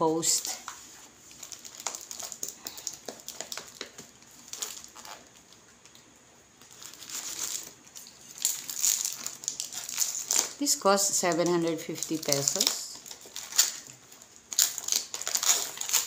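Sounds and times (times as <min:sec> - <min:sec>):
wrapping crackling: 0:00.0 - 0:16.0.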